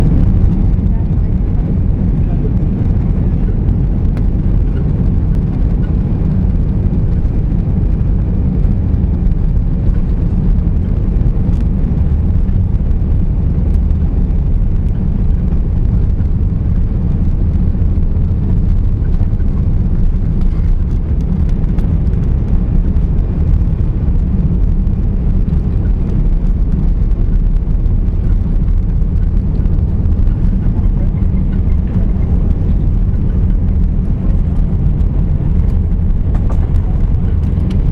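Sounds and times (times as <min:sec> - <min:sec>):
jet engines running: 0:00.0 - 0:37.9.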